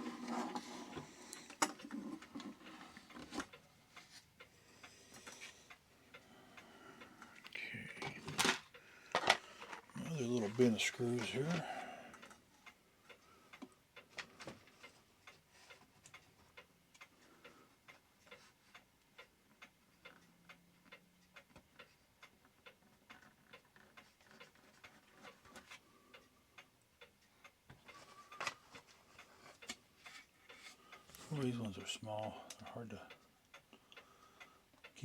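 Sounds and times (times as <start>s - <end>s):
mechanical clock ticking: 0.0s - 35.0s.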